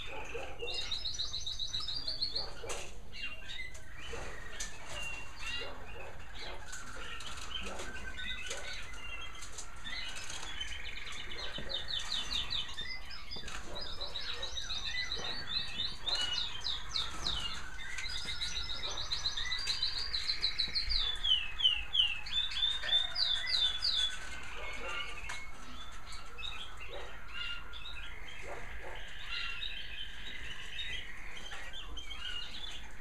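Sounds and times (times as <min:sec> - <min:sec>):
canaries singing in trills: 0:00.0 - 0:33.0.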